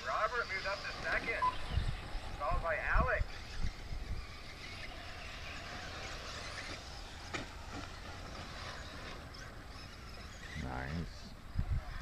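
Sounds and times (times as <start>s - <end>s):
rc truck motors and tyres hissing: 0.0s - 12.0s.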